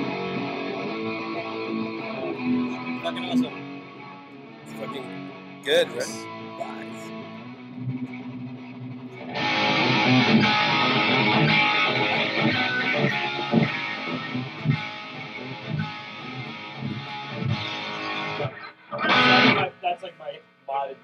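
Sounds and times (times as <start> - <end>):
electric guitar through amplifier: 0.0 - 20.4.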